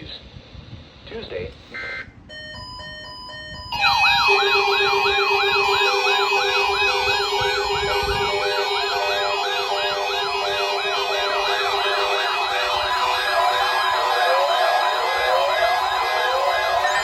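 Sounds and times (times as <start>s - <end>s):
electronic yelp siren: 1.7s - 17.0s
pulsing low tone: 2.9s - 17.0s.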